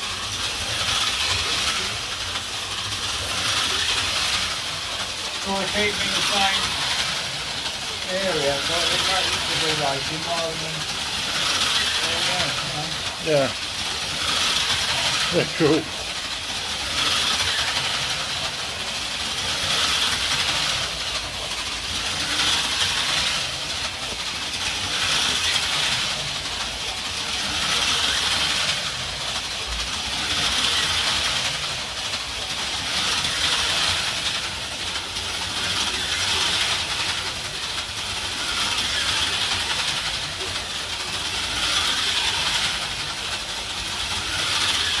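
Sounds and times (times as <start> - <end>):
slot car motors whining: 0.0 - 45.0.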